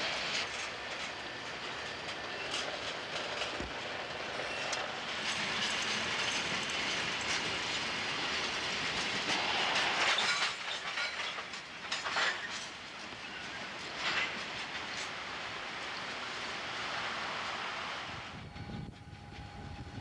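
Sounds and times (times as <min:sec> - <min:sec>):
wheels clicking over rail joints: 0:00.0 - 0:16.3
freight train rumbling past: 0:00.0 - 0:20.0.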